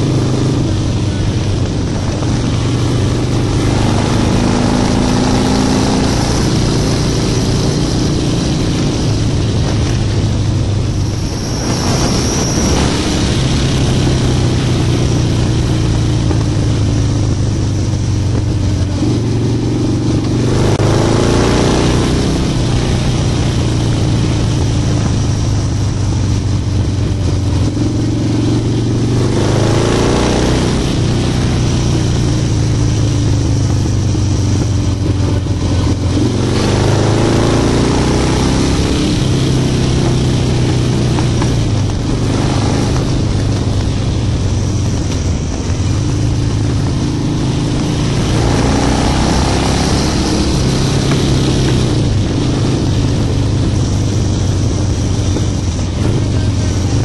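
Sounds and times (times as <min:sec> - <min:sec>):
motorcycle engine accelerating: 0:00.0 - 0:57.0
wind noise: 0:00.0 - 0:57.0.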